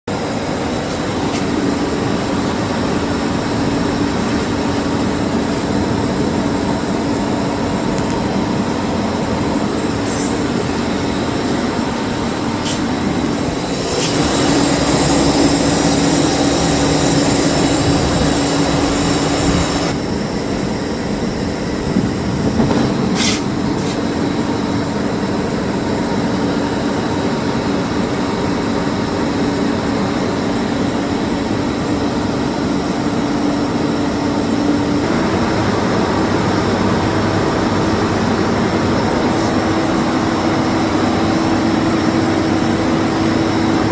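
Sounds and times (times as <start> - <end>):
electric motor and fan humming: 0.1 - 43.9.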